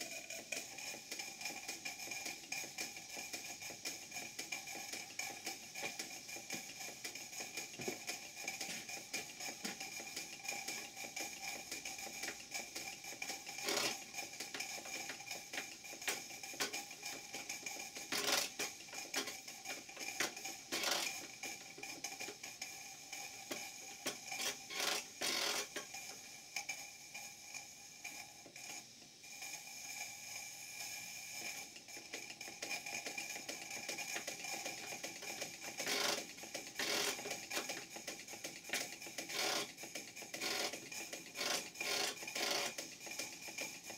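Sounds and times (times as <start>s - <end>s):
steady steam hiss: 0.0s - 43.9s
steam engine clicks and taps: 0.0s - 43.9s.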